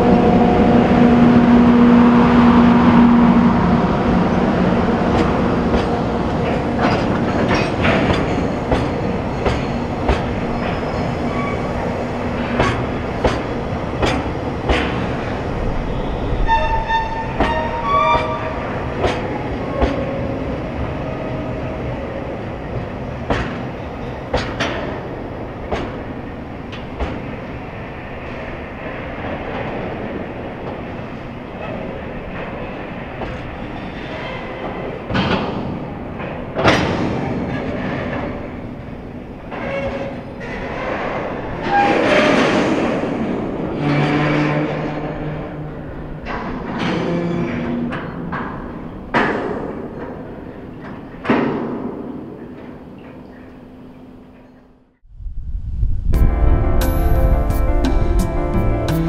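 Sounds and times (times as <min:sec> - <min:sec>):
locomotive hum: 0:00.0 - 0:51.3
train wheels rumbling: 0:00.0 - 0:59.0
wheels clacking over rail joints: 0:04.0 - 0:20.3, 0:22.7 - 0:54.7.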